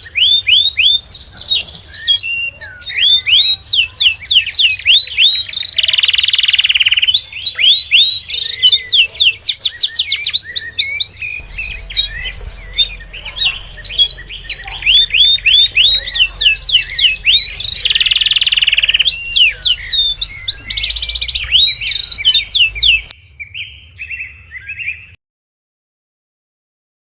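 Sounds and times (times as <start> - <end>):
birds chirping: 0.0 - 25.2
buzzy bird trill: 0.0 - 25.2.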